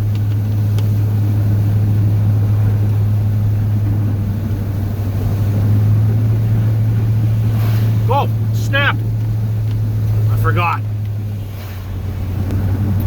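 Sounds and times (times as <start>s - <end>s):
pickup truck engine droning: 0.0s - 13.0s.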